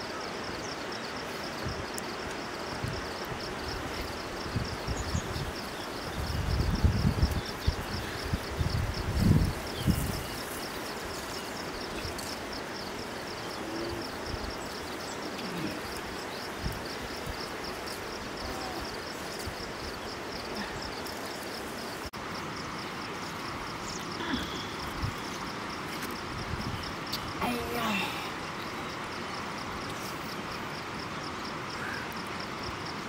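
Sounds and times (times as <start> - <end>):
insect chirping: 0.0 - 33.0
steady outdoor hiss: 0.0 - 33.0.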